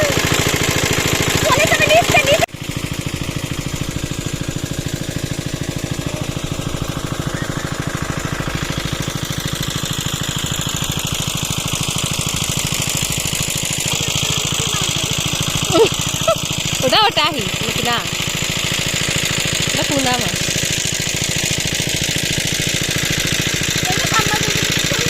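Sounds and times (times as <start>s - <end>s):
engine-driven pump running: 0.0s - 25.0s.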